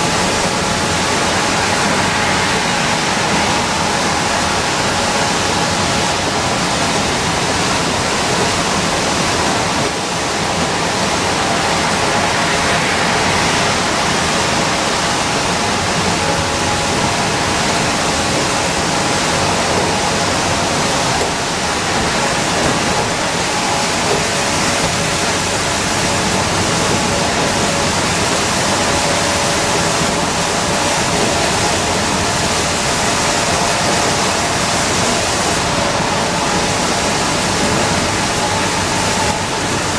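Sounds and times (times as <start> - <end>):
bus engine noise: 0.0 - 39.9
faint steady whine: 0.0 - 39.9.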